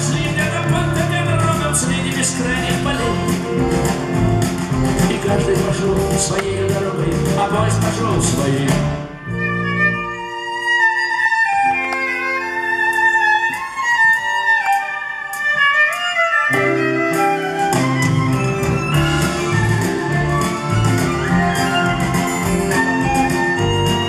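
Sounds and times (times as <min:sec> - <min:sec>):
accordion chords: 0:00.0 - 0:24.0
band playing steady rhythm: 0:00.0 - 0:24.0
violin sliding melody: 0:00.0 - 0:24.0.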